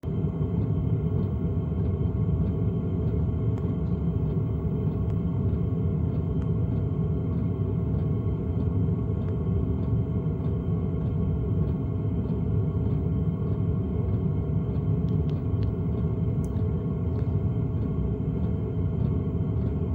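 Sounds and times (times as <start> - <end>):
machine running with low rumble: 0.0 - 19.9.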